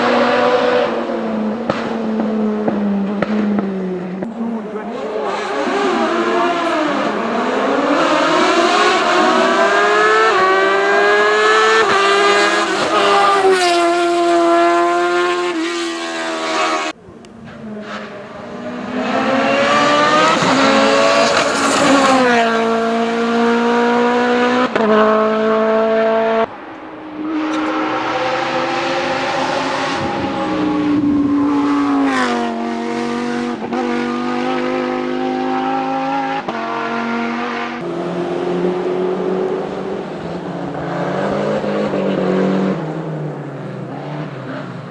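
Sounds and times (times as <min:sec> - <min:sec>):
racing cars accelerating: 0:00.0 - 0:44.9.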